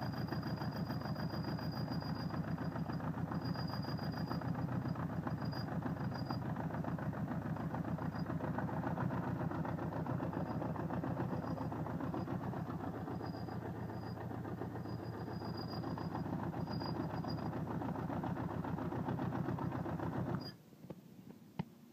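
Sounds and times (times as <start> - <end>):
engine rattling noise: 0.0 - 20.6
motorcycle engine running: 0.0 - 20.6.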